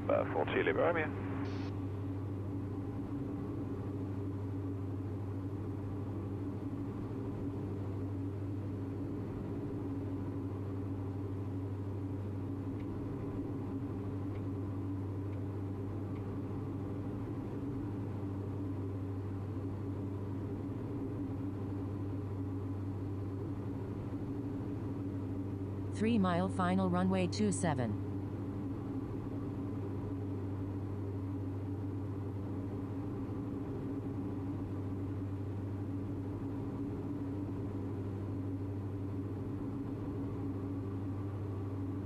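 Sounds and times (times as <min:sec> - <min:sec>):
propeller engines droning: 0:00.0 - 0:42.0.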